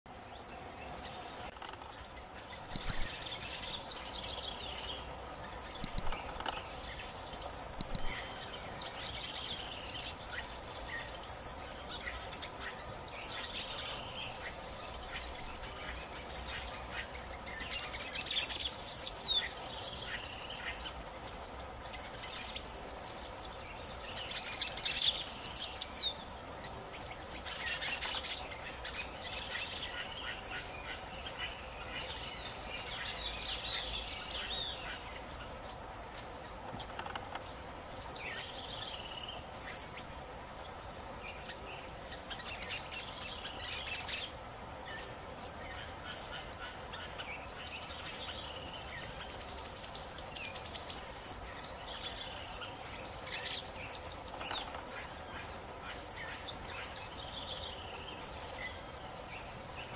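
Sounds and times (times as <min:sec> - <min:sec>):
songbirds singing and calling: 0:00.1 - 0:59.9.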